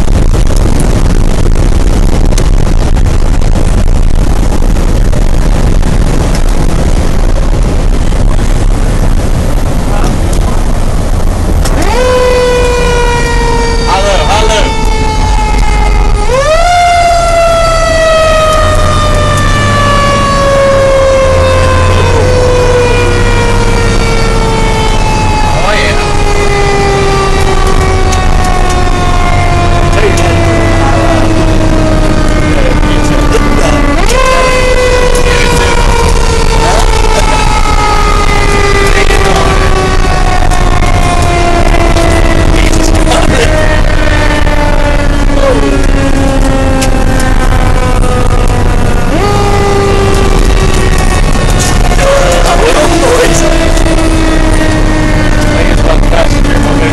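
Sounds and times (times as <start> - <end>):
fire engine siren: 0.0 - 56.9
truck engine rumble: 0.0 - 56.9.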